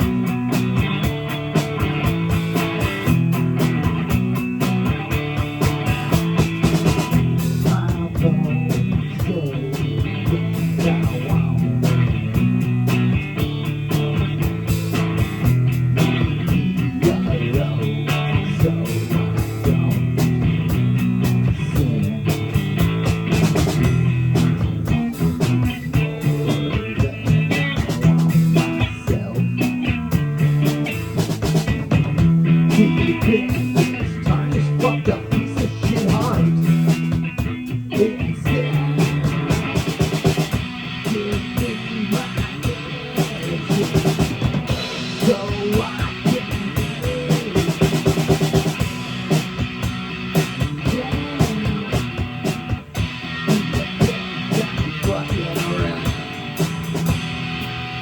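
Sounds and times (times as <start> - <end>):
drum kit steady beat: 0.0 - 58.0
electric guitar: 0.0 - 58.0.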